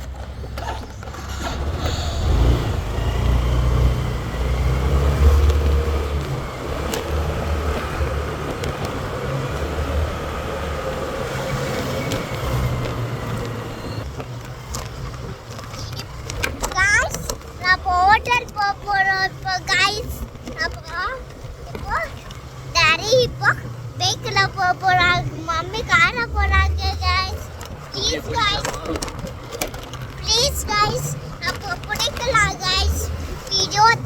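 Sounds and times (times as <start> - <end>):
road noise: 0.0 - 34.0
vehicle engine rumble: 0.0 - 34.0.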